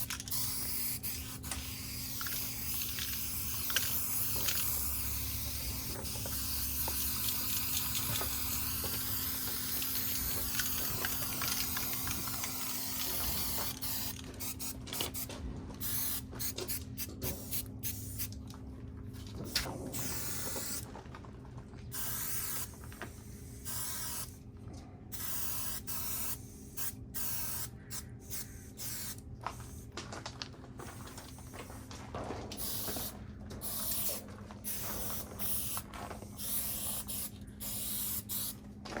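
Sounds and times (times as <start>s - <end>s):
spray paint can hissing: 0.0s - 18.3s, 19.5s - 20.8s, 21.9s - 24.4s, 25.1s - 29.8s, 32.6s - 38.6s.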